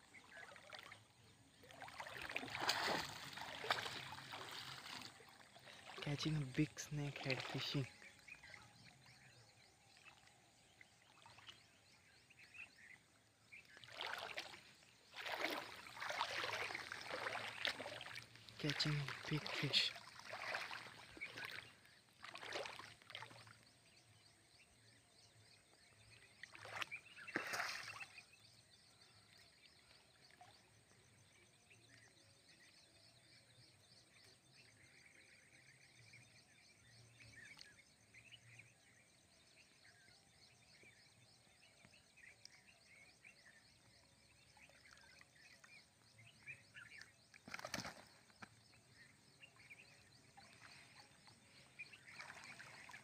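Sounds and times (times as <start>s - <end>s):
faint bird chirping: 0.0s - 53.0s.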